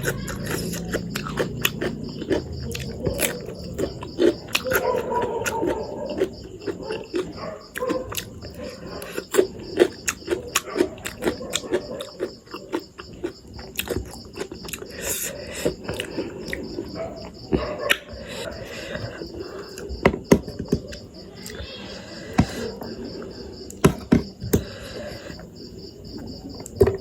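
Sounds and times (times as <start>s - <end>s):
person chewing noodles: 0.0s - 26.8s.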